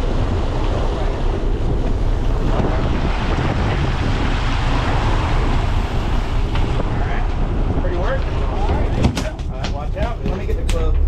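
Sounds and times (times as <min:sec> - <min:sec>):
boat engine running: 0:00.0 - 0:11.0
water churning: 0:00.0 - 0:11.0
wind across microphone: 0:00.0 - 0:11.0.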